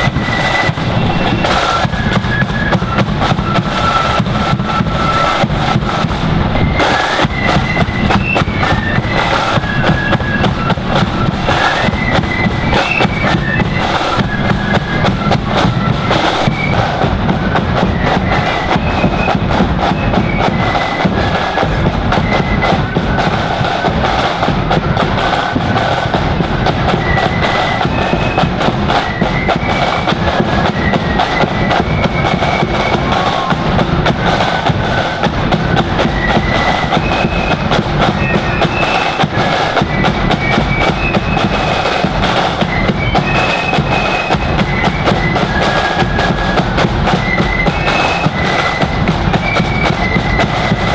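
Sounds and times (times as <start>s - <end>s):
bass drum beats: 0.0s - 50.9s
flute melody: 0.0s - 50.9s
snare drum rolls: 0.0s - 50.9s.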